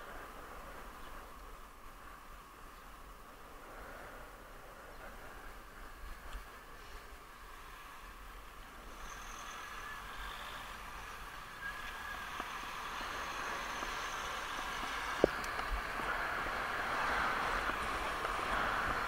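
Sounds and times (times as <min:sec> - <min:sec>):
rushing road and traffic noise: 0:00.0 - 0:19.0.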